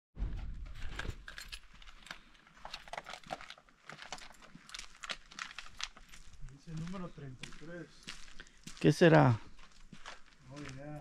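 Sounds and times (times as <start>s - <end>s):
footsteps crunching on dry ground: 0.5s - 11.0s.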